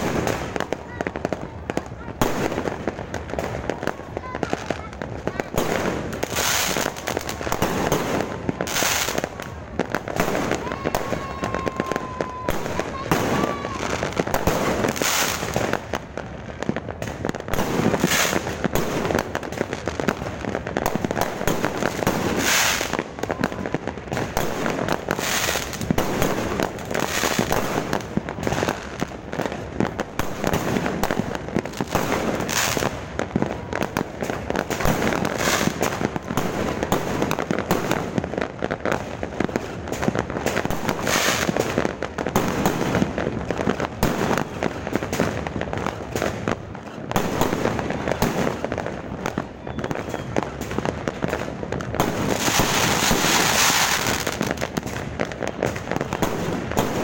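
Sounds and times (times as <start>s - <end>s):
fireworks crackling and bursting: 0.0s - 57.0s.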